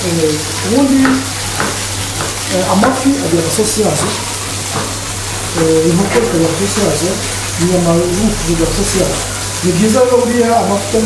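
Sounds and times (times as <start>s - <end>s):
fish sizzling in a grill pan: 0.0s - 11.0s.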